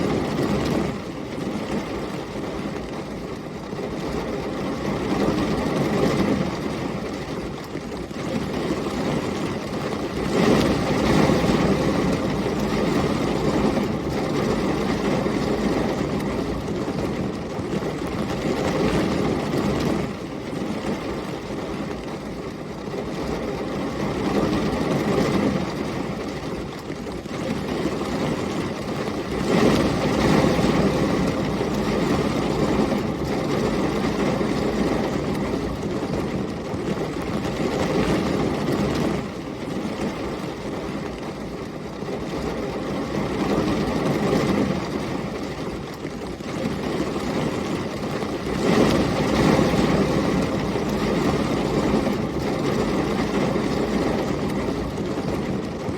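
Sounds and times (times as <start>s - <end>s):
heavy rain: 0.0s - 55.9s
storm wind: 0.0s - 55.9s.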